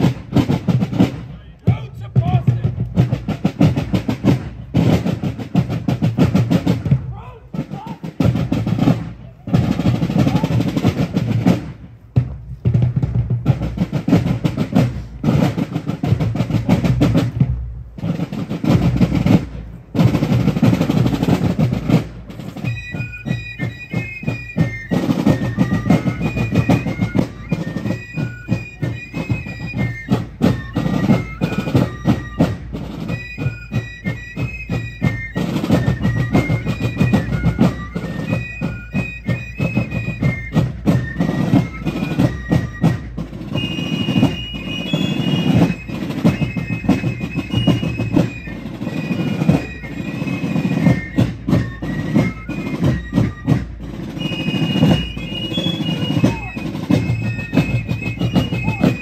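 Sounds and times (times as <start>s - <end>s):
fifes playing a tune: 0.0s - 59.0s
marching drums with rolls: 0.0s - 59.0s.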